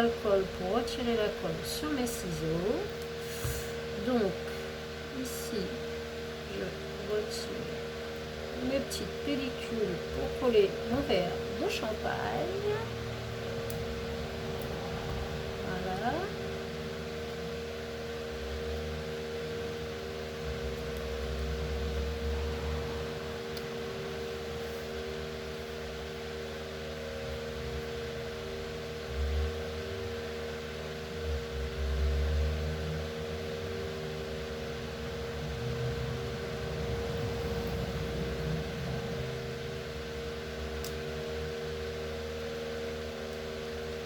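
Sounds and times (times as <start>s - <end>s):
electric fan running: 0.0s - 44.0s.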